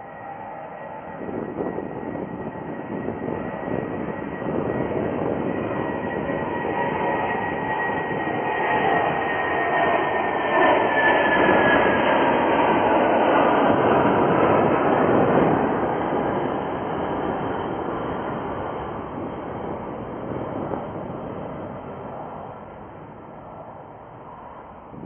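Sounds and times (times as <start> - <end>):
high jet whine: 0.0 - 25.0
jet engine rumble: 0.0 - 25.0.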